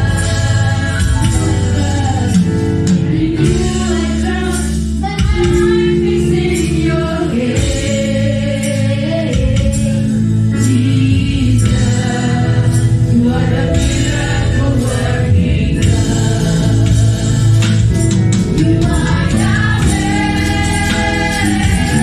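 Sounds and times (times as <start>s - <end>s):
bass guitar: 0.0s - 22.0s
live band: 0.0s - 22.0s
women singing gospel song: 0.0s - 22.0s.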